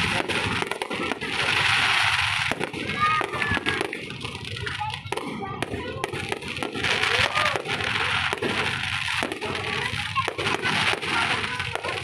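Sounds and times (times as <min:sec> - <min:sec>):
fireworks crackle: 0:00.0 - 0:12.0
fireworks cracks and pops: 0:00.0 - 0:12.0.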